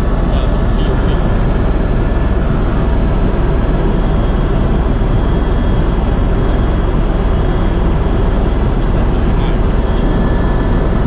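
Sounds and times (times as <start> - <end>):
helicopter rotor and engine: 0.0 - 11.0.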